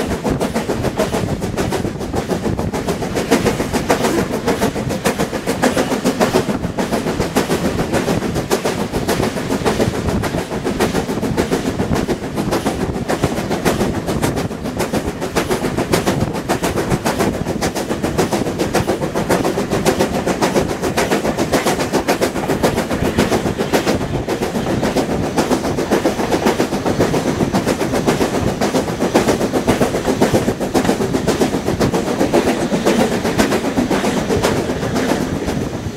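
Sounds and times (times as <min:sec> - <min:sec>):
steam locomotive running: 0:00.0 - 0:35.9.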